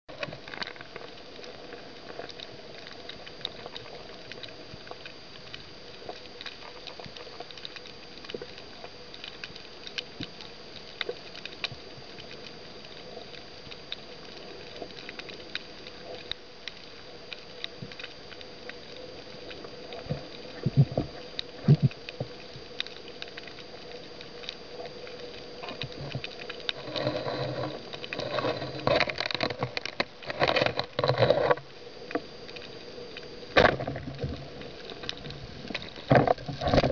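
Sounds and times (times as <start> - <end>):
crackle of reef clicks: 0.1 - 36.9
faint underwater hum: 0.1 - 36.9
underwater knocking and scraping: 0.1 - 36.9.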